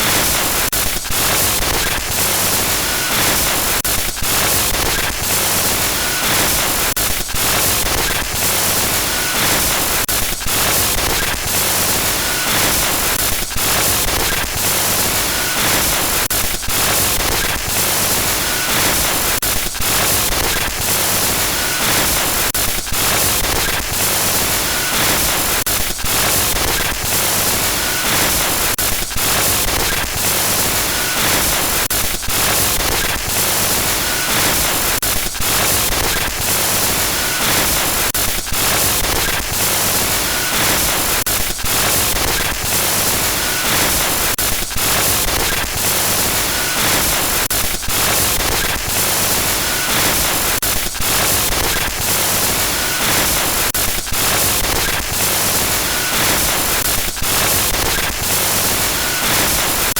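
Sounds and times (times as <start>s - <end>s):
static hiss with glitches: 0.0s - 59.9s.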